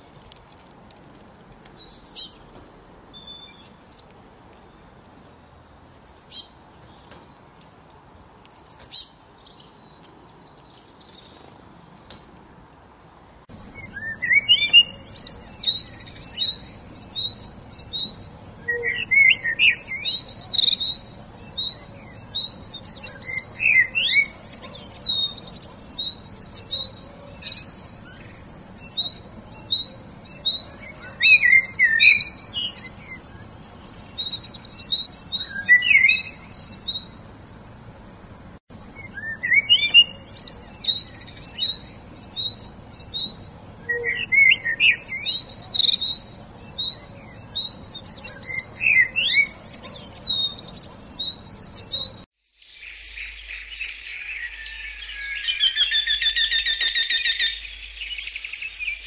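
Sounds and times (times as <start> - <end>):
small songbirds chirping: 0.0 - 59.0
birds singing with trills: 1.6 - 7.6, 8.5 - 59.0.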